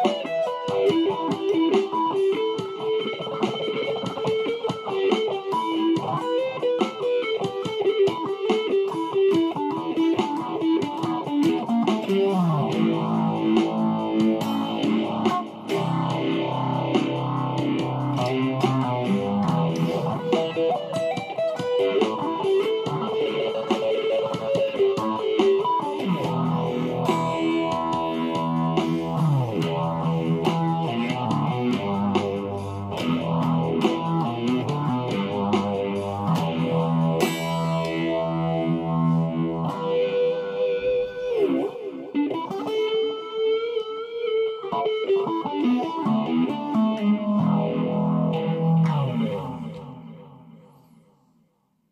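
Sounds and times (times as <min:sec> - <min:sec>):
electric guitar playing: 0:00.0 - 0:51.2.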